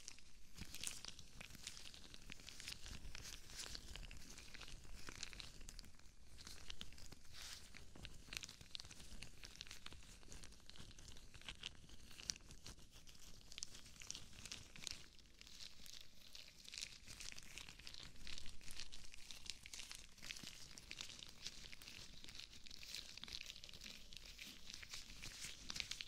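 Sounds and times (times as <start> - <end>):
rubber gloves crinkling: 0.0 - 26.0.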